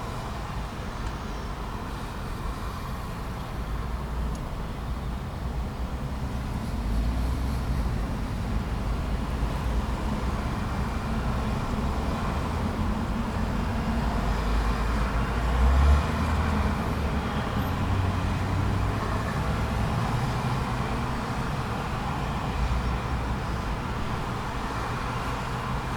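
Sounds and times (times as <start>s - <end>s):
cars and trucks passing: 0.0s - 25.9s.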